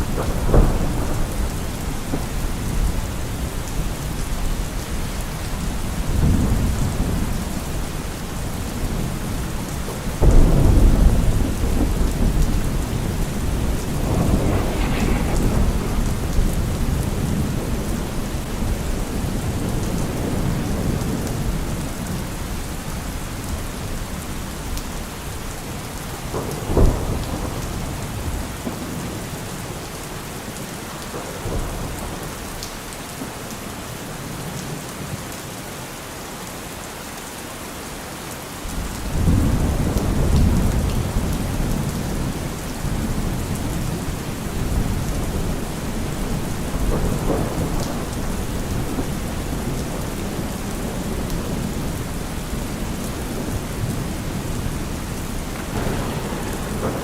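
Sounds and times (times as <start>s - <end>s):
thunder rumbling and cracking: 0.0s - 33.4s, 38.7s - 57.0s
steady rain falling: 0.0s - 57.0s.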